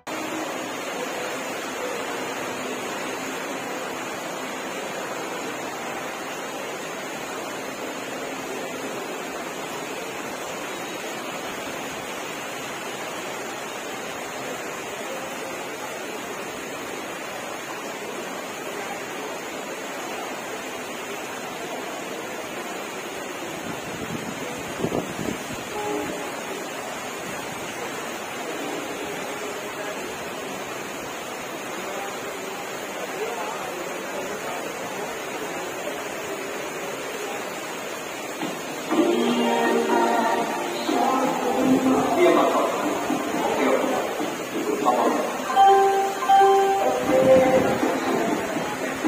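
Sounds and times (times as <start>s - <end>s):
rushing floodwater: 0.0s - 49.0s.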